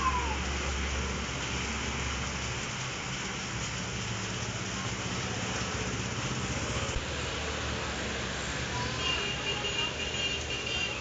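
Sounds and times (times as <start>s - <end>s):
heavy rain on flooded street: 0.0s - 11.0s.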